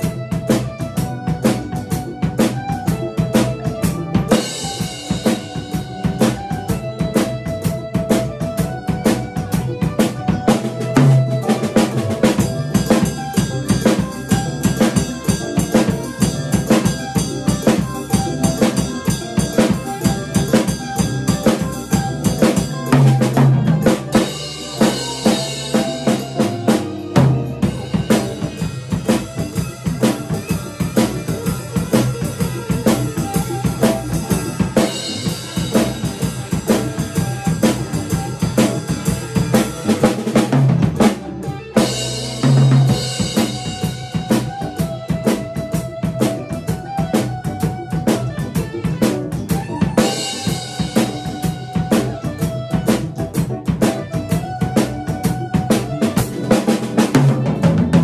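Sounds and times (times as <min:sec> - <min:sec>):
drum kit groove: 0:00.0 - 0:58.0.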